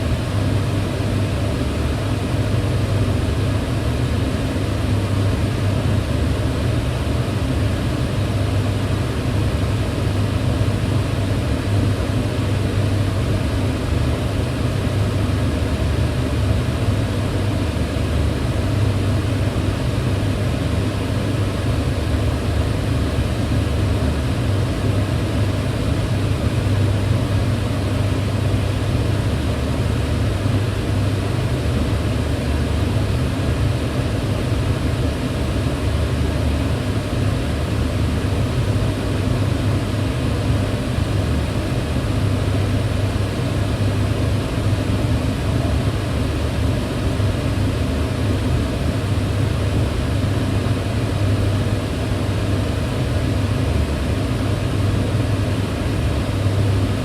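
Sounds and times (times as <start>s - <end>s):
range hood fan running: 0.0s - 57.0s.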